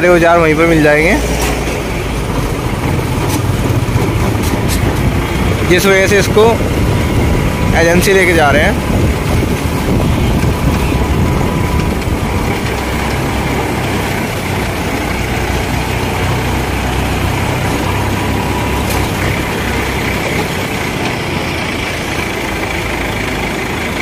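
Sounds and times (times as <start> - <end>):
tractor diesel engine running: 0.0 - 24.0
tyre road noise: 0.0 - 24.0.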